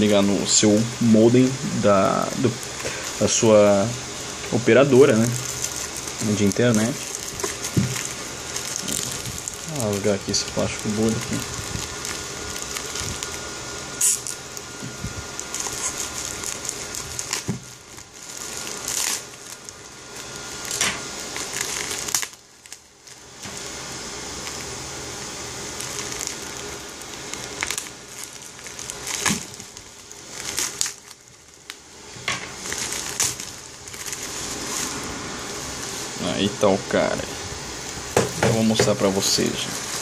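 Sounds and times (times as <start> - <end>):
bubble wrap crinkling and crackling: 0.0 - 40.0
bubble wrap snapping: 1.9 - 37.2, 37.8 - 40.0.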